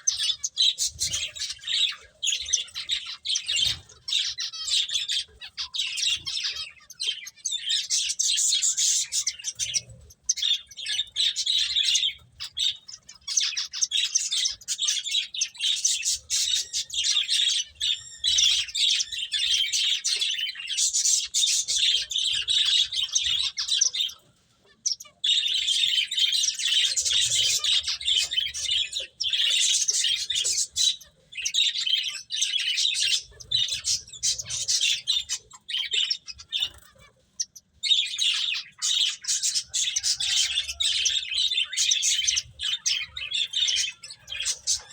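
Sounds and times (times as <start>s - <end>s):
finches chirping: 0.0s - 44.9s.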